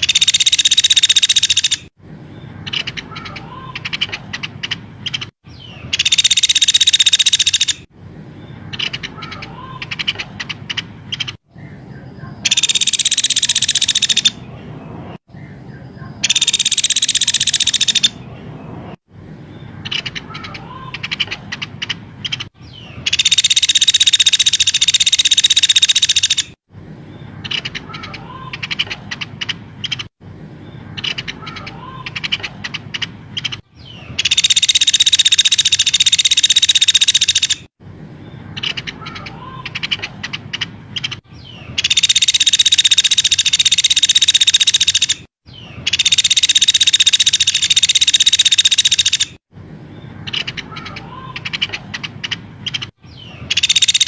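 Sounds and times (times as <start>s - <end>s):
rapid bird chirps and clicks: 0.0s - 7.9s, 8.6s - 14.5s, 16.1s - 18.3s, 19.8s - 26.6s, 27.4s - 30.2s, 30.9s - 37.7s, 38.4s - 49.4s, 50.1s - 54.0s
loud high bird trilling: 0.0s - 19.0s, 19.6s - 26.6s, 27.2s - 30.1s, 30.7s - 37.7s, 38.3s - 49.4s, 50.0s - 54.0s.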